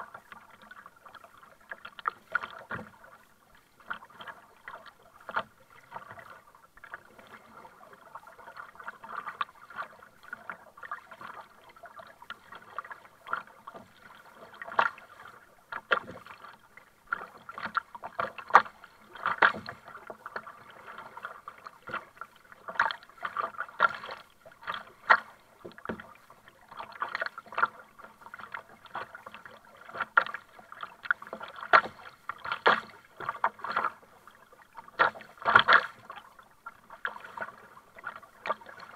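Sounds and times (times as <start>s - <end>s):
kayak paddle splashing: 0.0s - 38.9s
water slapping a hull: 0.0s - 38.9s.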